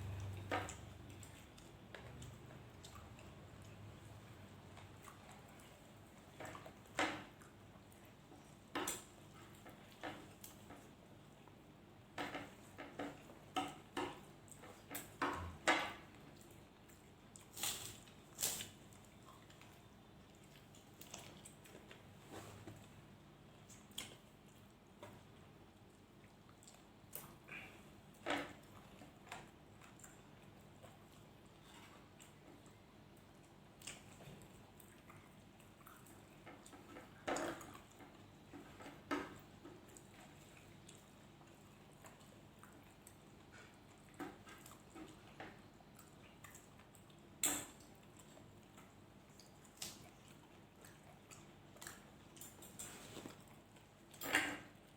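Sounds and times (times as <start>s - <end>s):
chewing with wet mouth smacks: 0.0s - 11.7s, 16.2s - 54.2s.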